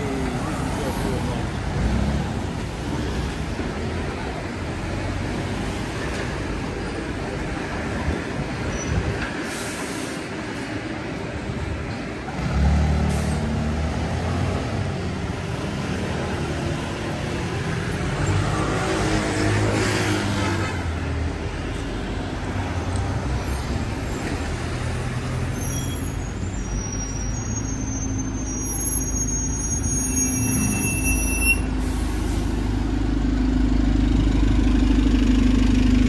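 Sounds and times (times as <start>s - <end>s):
city street traffic: 0.0s - 36.0s
heavy vehicle engine rumble: 0.0s - 36.0s.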